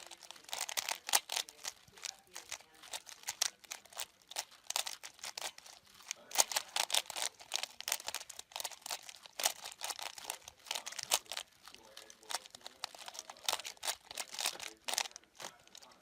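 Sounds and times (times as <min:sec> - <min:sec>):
puzzle cube clicking and rattling: 0:00.0 - 0:16.0.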